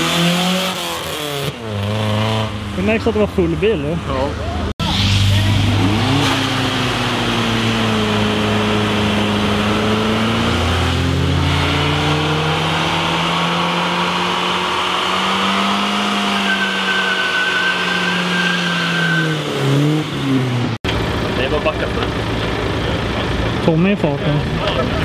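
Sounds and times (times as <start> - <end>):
car engine driving: 0.0 - 25.0.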